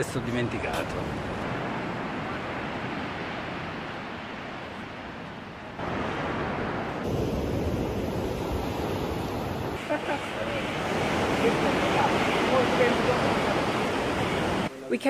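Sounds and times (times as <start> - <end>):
sea waves breaking: 0.0 - 14.7.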